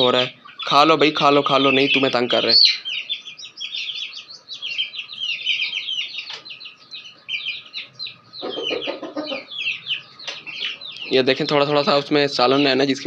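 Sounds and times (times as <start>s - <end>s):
chicken clucking: 0.0s - 13.0s
chicks peeping: 0.0s - 13.0s.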